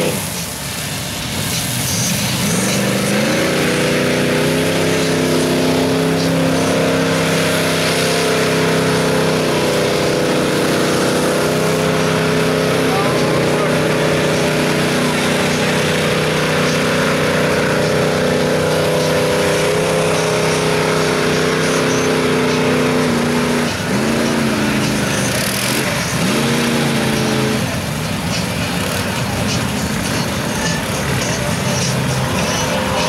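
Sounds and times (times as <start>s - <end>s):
truck churning through mud: 0.0s - 33.0s
truck engine revving: 0.0s - 33.0s.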